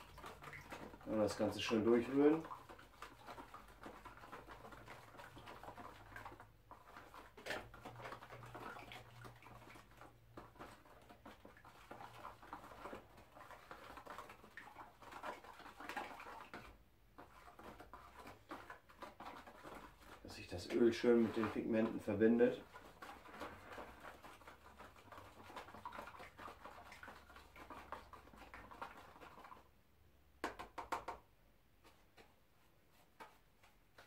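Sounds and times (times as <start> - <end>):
wooden stick scraping in dish: 0.1 - 29.6.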